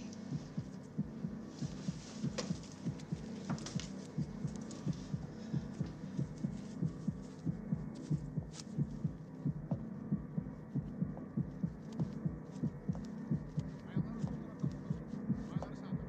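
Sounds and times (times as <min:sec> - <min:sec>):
low hum: 0:00.0 - 0:16.0
quick heartbeat: 0:00.0 - 0:16.0.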